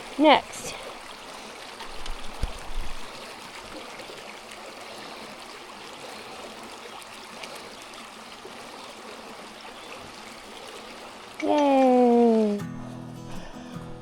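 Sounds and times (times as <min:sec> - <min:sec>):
stream running over rocks: 0:00.0 - 0:12.7.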